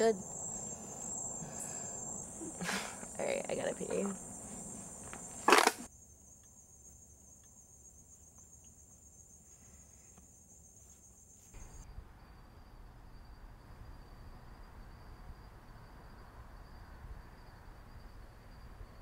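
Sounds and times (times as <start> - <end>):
crickets trilling: 0.0 - 19.0
low background hiss: 0.0 - 19.0.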